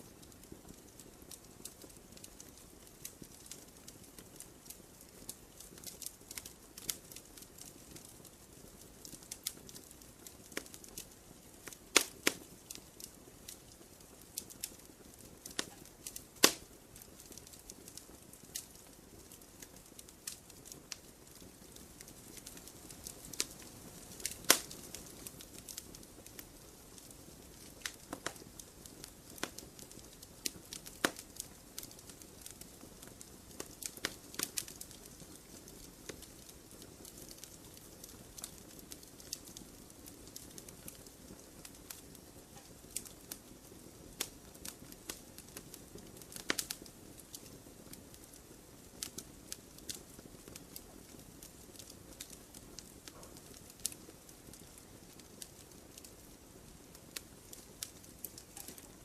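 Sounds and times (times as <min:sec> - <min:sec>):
loud fire snaps: 0:00.0 - 0:59.0
soft hiss of flame: 0:00.0 - 0:59.0
wood crackling and popping: 0:00.0 - 0:59.0.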